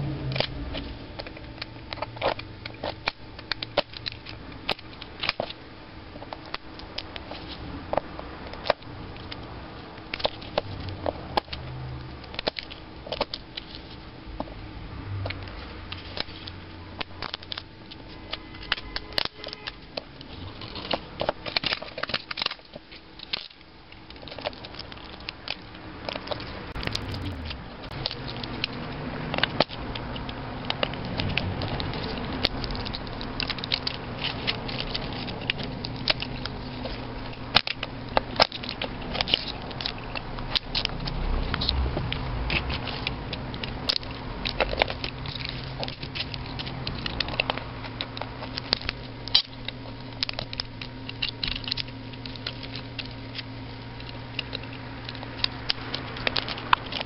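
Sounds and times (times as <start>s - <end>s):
sharp clicks and crackles: 0.0s - 57.0s.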